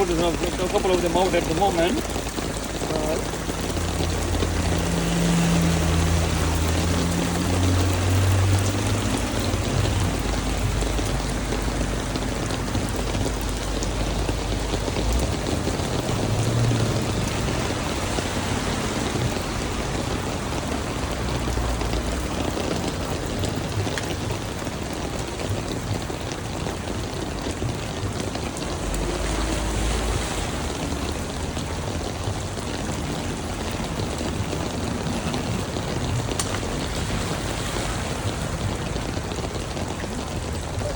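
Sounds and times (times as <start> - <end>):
heavy rain falling: 0.0 - 40.9
low rumbles: 0.0 - 40.9.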